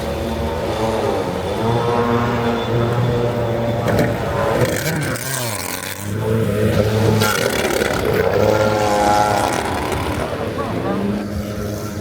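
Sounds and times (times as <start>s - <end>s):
motorised surfboard engines: 0.0s - 12.0s.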